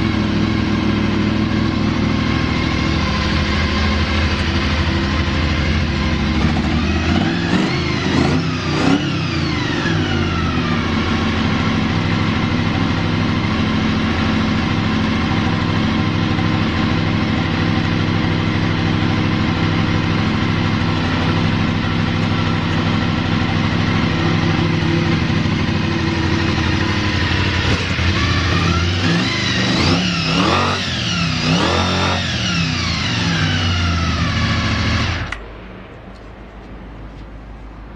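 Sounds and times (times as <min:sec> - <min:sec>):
motorcycle engine idling: 0:00.0 - 0:37.9
motorcycle engine revving: 0:00.0 - 0:37.9.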